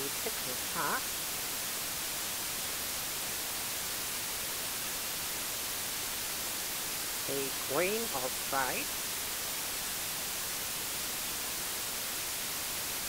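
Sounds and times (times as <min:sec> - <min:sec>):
white noise hiss: 0:00.0 - 0:13.0.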